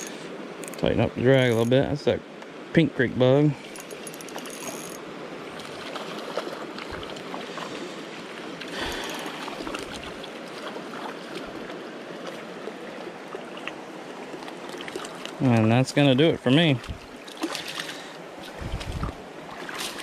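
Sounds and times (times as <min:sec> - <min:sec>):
creek water running over rocks: 0:00.0 - 0:20.0.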